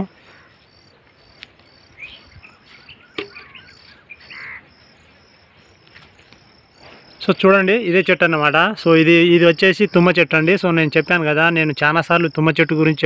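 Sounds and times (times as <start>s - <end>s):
birds chirping: 0.0s - 13.0s
insects chirping: 0.0s - 13.0s.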